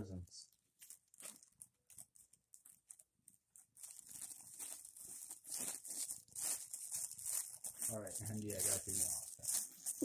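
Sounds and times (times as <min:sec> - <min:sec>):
plastic bag rustling: 0:00.7 - 0:10.0.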